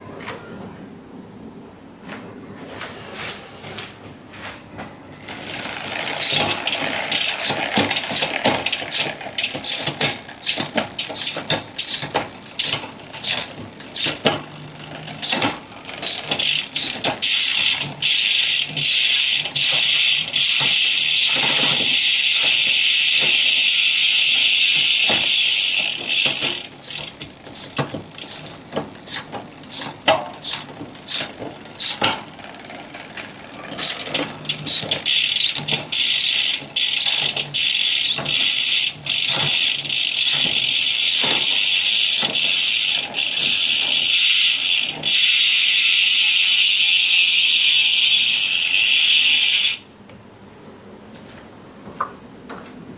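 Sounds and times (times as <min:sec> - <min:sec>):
chain moving across cogs: 0:05.2 - 0:49.8
spinning drivetrain whir: 0:05.2 - 0:49.8.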